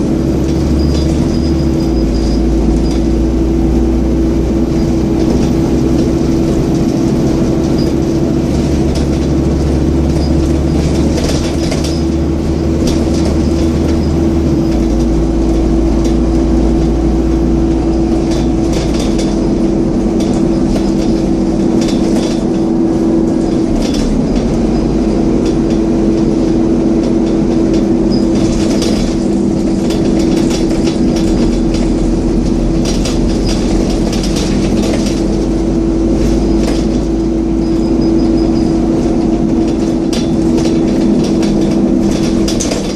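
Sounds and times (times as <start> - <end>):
bus engine drone: 0.0 - 42.9
rattles and clicks: 0.2 - 42.9.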